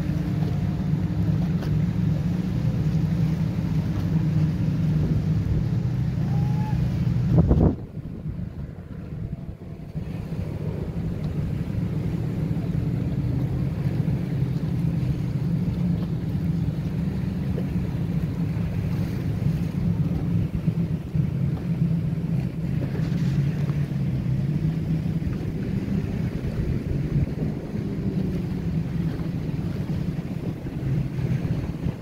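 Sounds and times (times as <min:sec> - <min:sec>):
motorboat engines droning: 0:00.0 - 0:32.0
wind buffeting microphone: 0:00.0 - 0:32.0.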